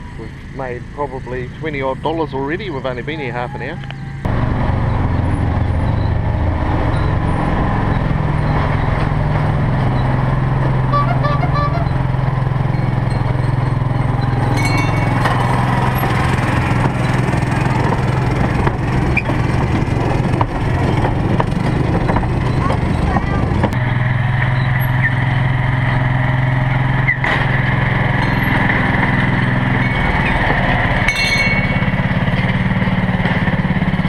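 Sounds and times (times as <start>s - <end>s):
wheels rolling on rails: 3.9s - 34.0s
miniature train engine hum: 5.6s - 34.0s.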